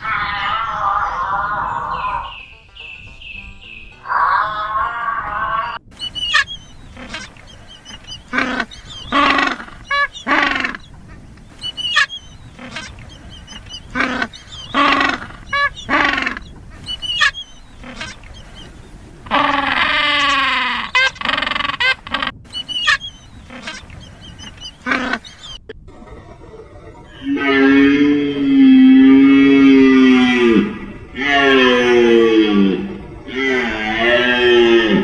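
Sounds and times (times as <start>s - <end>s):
birds calling: 0.0s - 35.0s.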